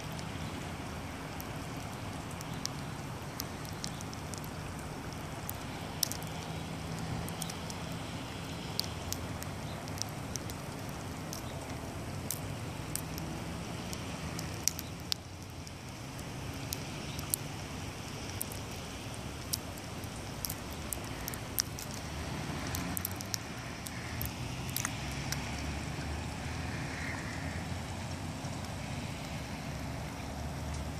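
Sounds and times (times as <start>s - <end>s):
raindrops ticking: 0.0s - 30.9s
steady rain hiss: 0.0s - 30.9s.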